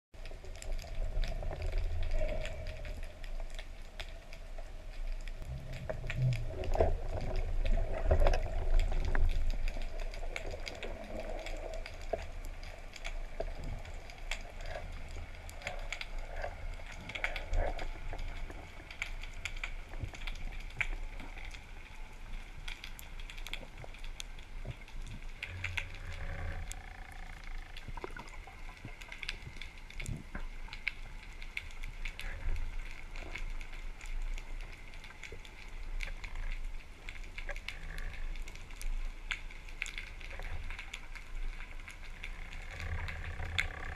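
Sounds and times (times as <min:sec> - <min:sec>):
small underwater clicks and crackles: 0:00.1 - 0:43.9
low underwater rumbling: 0:00.2 - 0:43.9
underwater rush of water: 0:00.2 - 0:43.9.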